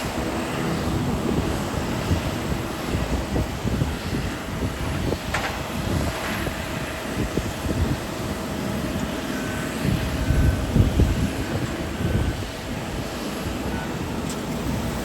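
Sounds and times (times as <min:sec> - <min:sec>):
aircraft engine drone: 0:00.0 - 0:15.0
wind buffeting microphone: 0:00.0 - 0:15.0.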